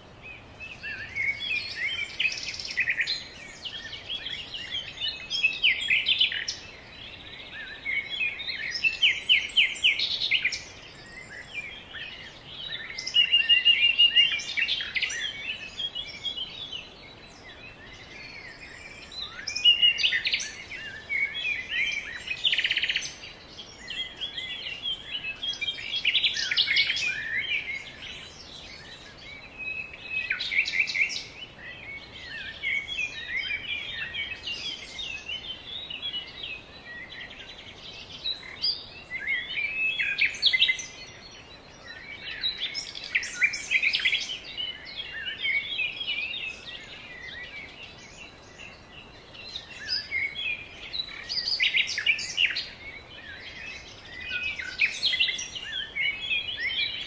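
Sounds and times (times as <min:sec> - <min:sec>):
faint background hiss: 0:00.0 - 0:57.0
songbirds singing: 0:00.0 - 0:57.0.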